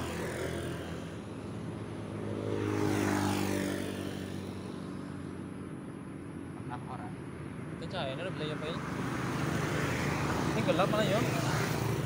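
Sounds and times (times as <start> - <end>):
engine passing by: 0.0 - 7.1, 7.7 - 12.0.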